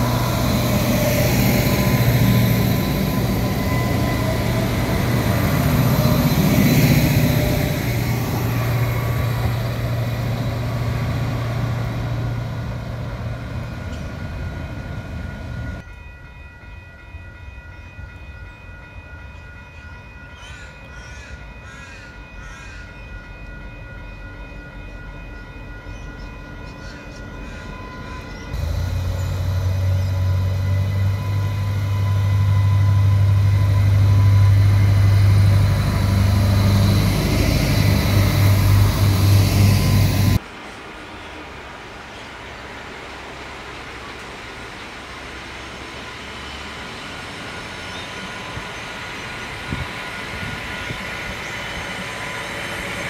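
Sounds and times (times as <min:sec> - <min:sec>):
diesel railcar engine drone: 0:00.0 - 0:53.0
railcar passing with low hum: 0:00.0 - 0:53.0.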